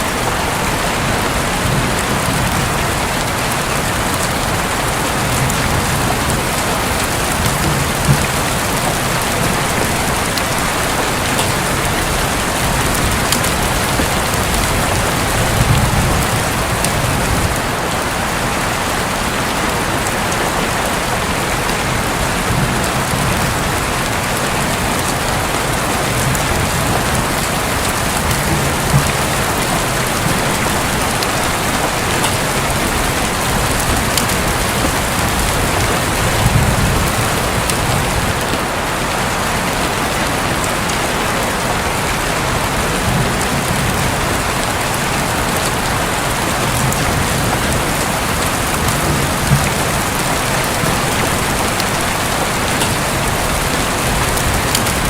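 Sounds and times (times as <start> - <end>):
distant thunder rumbles: 0.0 - 18.3, 20.8 - 38.6, 42.6 - 55.0
heavy rain on a roof: 0.0 - 55.0.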